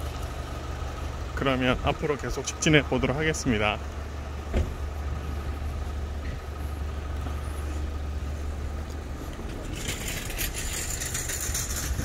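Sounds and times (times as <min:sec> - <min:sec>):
engine low rumble: 0:00.0 - 0:12.0
street noise: 0:00.0 - 0:12.0.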